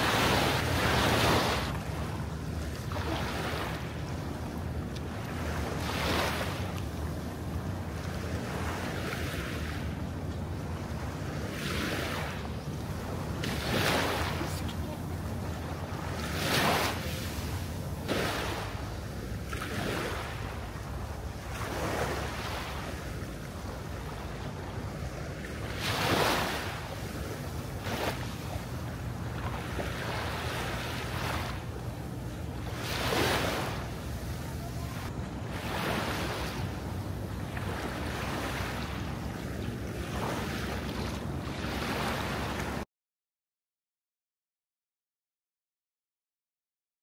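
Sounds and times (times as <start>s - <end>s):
sea waves washing onto beach: 0.0s - 42.8s.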